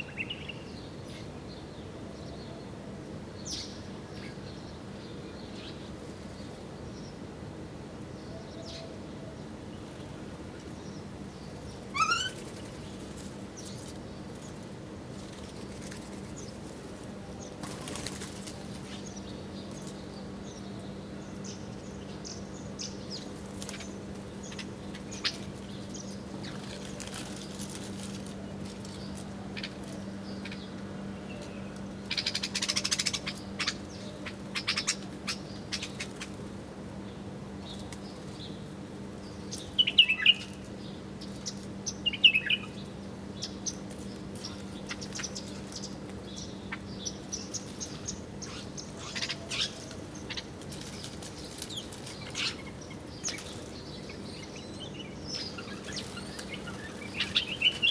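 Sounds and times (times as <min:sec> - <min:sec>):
small birds chirping: 0:09.8 - 0:57.9.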